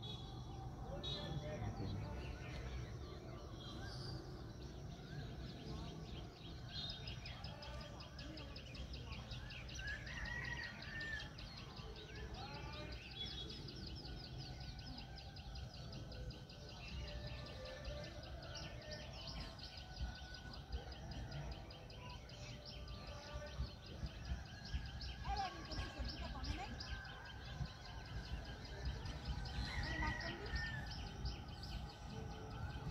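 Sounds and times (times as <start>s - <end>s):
birds chirping and calling: 0.0s - 32.9s.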